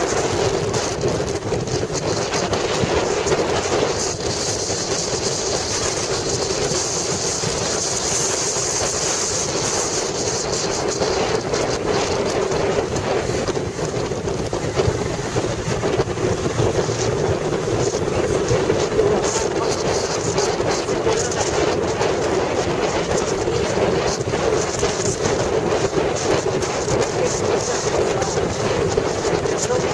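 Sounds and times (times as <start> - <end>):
motorcycle cruising: 0.0 - 29.9
road noise: 0.0 - 29.9
wind on microphone: 0.0 - 29.9.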